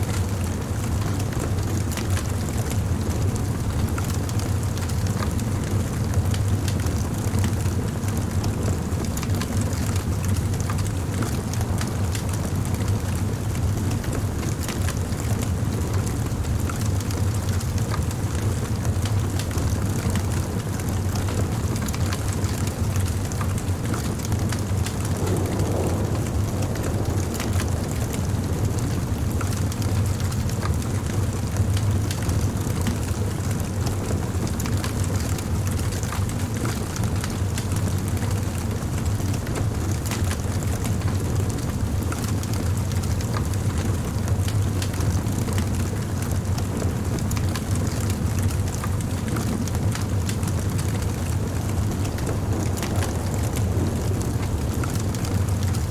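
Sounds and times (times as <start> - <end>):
wood fire crackling and popping: 0.1 - 55.9.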